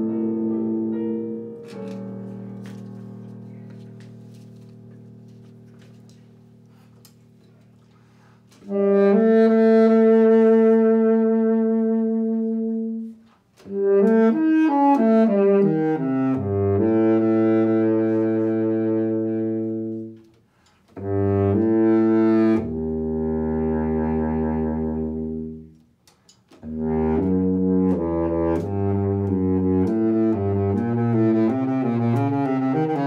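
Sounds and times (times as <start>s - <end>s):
baritone saxophone solo: 0.0s - 25.8s, 26.5s - 33.0s.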